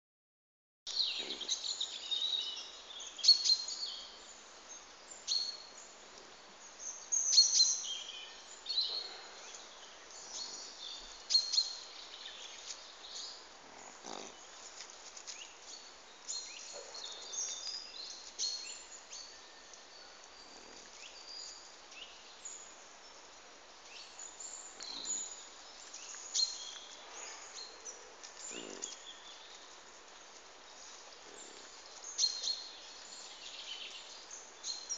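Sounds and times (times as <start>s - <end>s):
small birds chirping: 0.9s - 34.9s.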